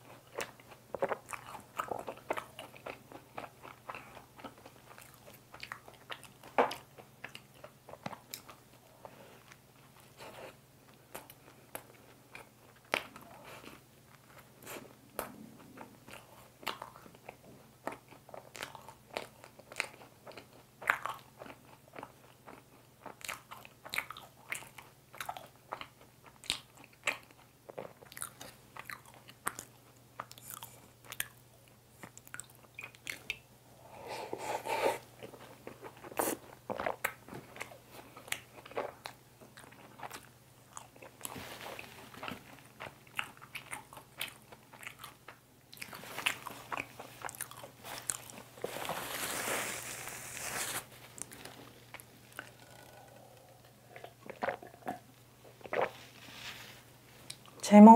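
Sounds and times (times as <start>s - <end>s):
wet chewing and smacking: 0.0s - 33.4s, 35.1s - 48.7s, 51.0s - 56.0s.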